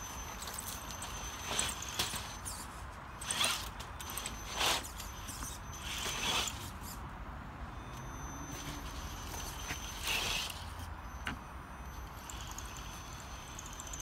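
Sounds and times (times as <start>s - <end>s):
electric motor whirring: 0.0s - 7.1s, 7.7s - 14.0s.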